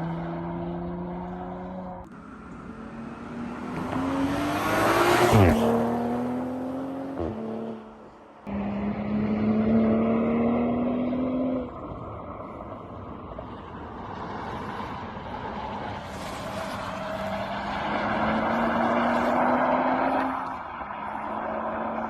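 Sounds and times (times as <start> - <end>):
road and tyre noise: 0.0 - 22.0
sports car engine: 0.0 - 22.0.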